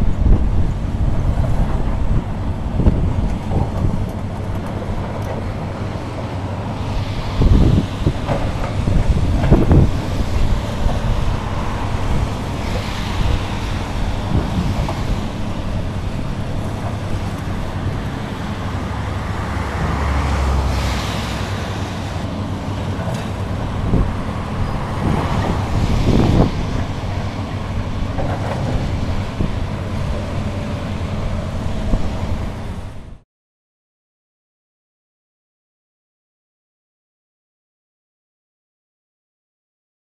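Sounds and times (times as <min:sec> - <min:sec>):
excavator diesel engine running: 0:00.0 - 0:33.2.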